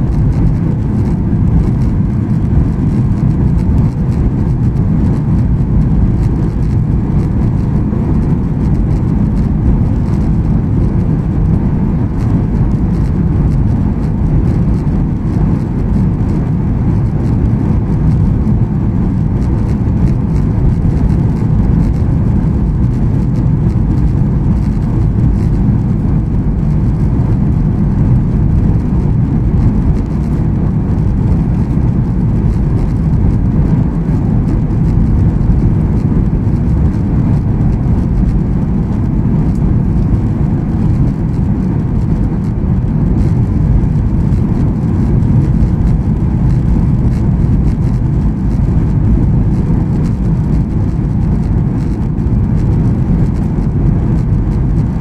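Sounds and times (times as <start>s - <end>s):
jet airliner cabin rumble: 0.0s - 55.0s.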